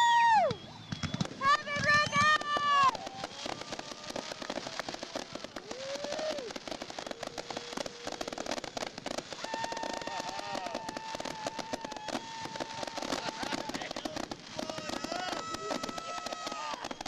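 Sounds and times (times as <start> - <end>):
firework whistle: 0.0 - 17.0
fireworks crackling: 0.0 - 17.0.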